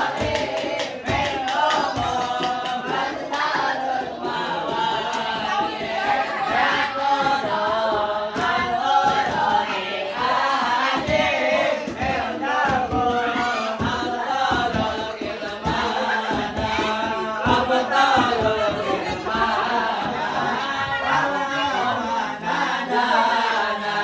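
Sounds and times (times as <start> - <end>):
group singing devotional chants: 0.0 - 24.0.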